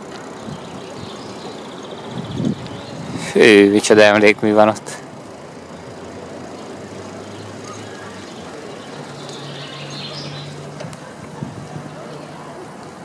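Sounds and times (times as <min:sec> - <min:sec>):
wind and bicycle rolling noise: 0:00.0 - 0:13.0.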